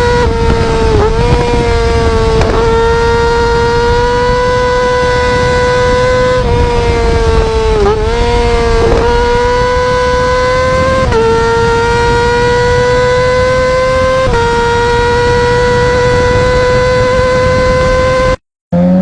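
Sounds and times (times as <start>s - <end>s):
motorcycle engine at high revs: 0.0s - 19.0s.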